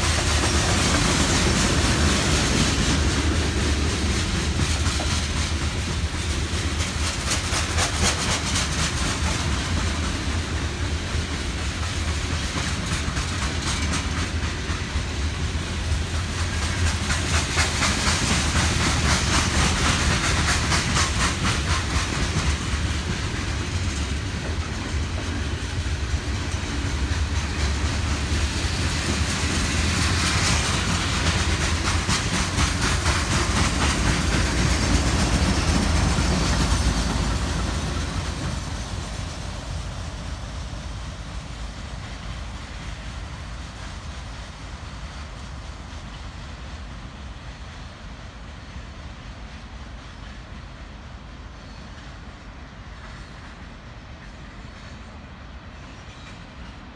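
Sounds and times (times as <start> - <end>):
diesel locomotive passing: 0.0 - 56.9
heavy low train rumble: 0.0 - 56.9
train wheels clicking over rail joints: 0.0 - 56.9.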